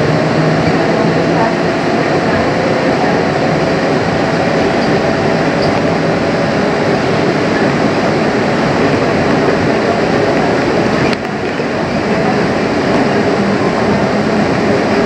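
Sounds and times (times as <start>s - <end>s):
people-mover car running noise: 0.0s - 15.0s.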